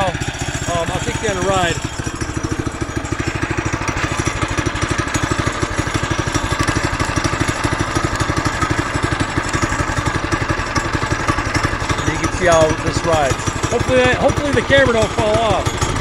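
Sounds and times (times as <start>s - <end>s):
mini bike engine idling: 0.0s - 16.0s.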